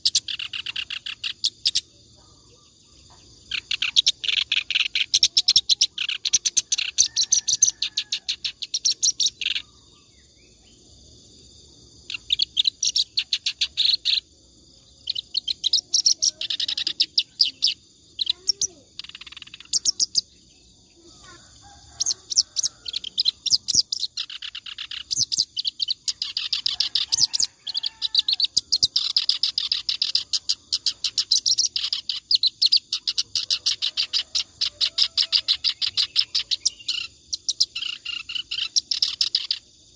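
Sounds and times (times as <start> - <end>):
reed warbler singing: 0.0 - 1.9, 3.1 - 10.6, 12.1 - 14.3, 15.0 - 20.7, 21.9 - 39.7.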